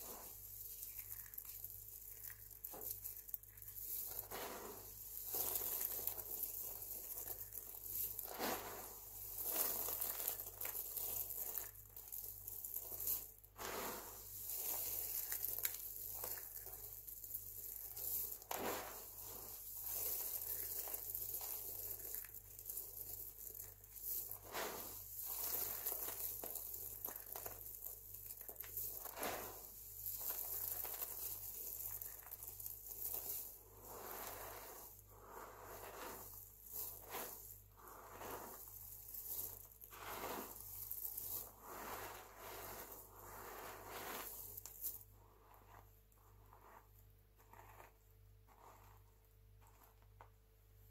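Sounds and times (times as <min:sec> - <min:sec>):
hands rustling soap flakes: 0:00.0 - 0:46.8.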